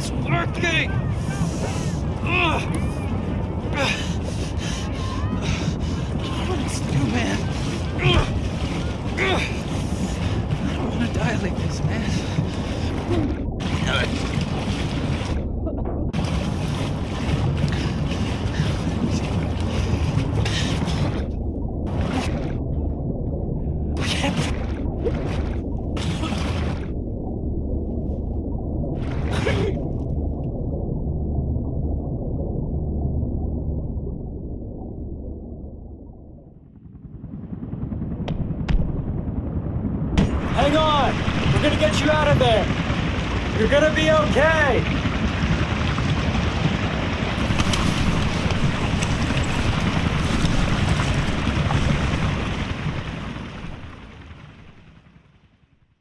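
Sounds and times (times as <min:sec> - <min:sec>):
muffled floodwater rumbling: 0:00.0 - 0:56.0.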